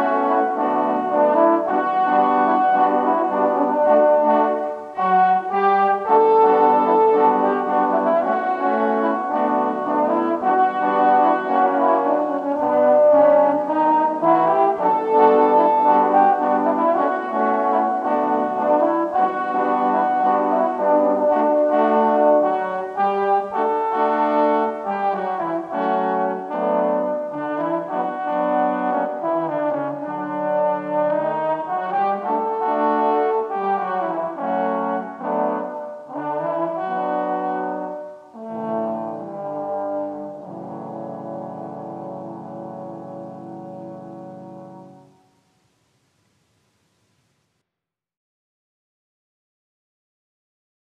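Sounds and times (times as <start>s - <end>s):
french horns playing a slow ballad: 0.0s - 45.6s.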